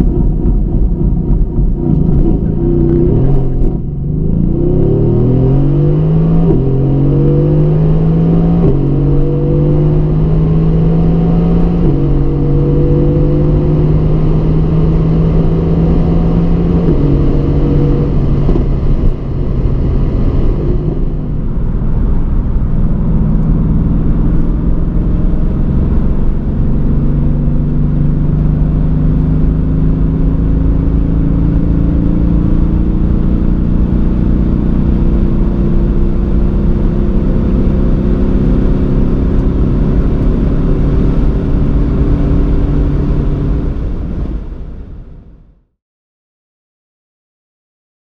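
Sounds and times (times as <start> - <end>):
car engine accelerating hard: 0.0 - 45.5.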